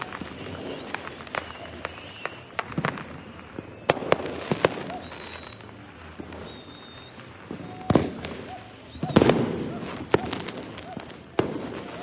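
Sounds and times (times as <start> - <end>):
close firework cracks: 0.0 - 12.0
distant fireworks bangs and crackle: 0.0 - 12.0
faint high whistles: 0.0 - 12.0.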